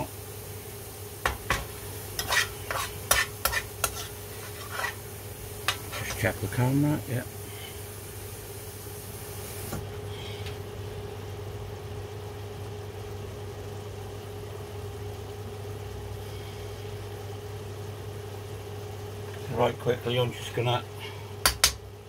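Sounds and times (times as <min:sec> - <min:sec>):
fan-like hiss: 0:00.0 - 0:22.0
induction hob humming: 0:00.0 - 0:22.0.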